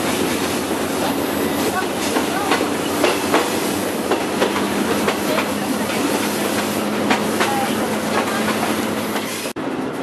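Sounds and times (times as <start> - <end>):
locomotive engine hum: 0.0 - 10.0
train running noise: 0.0 - 10.0.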